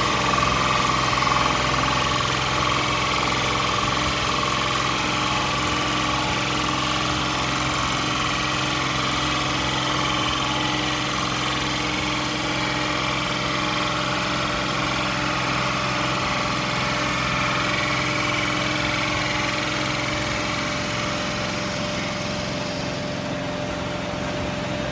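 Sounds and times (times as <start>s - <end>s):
cnc router spindle running: 0.0s - 24.9s.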